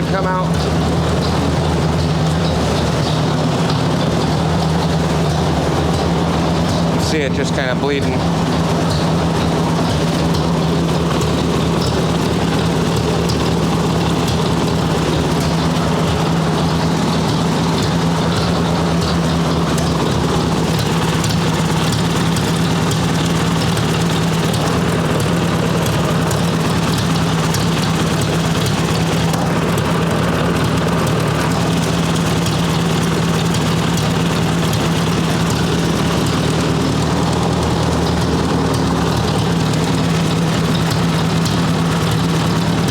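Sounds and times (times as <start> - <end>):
tractor engine idling: 0.0 - 42.9.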